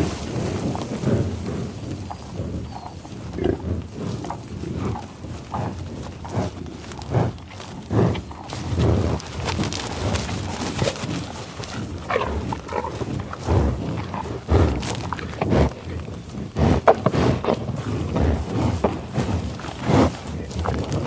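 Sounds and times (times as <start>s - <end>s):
bison grunting and sniffing: 0.0s - 21.0s.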